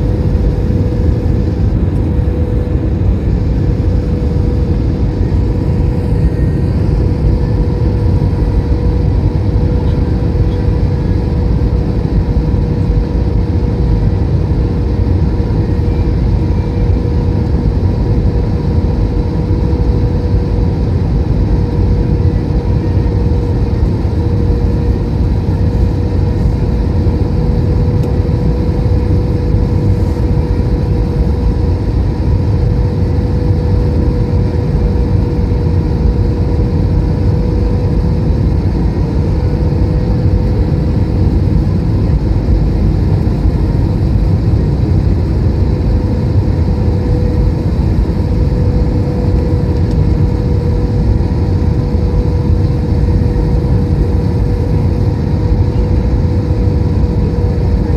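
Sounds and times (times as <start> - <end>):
airplane cabin engine roar: 0.0 - 57.9
steady hum tone: 0.0 - 57.9.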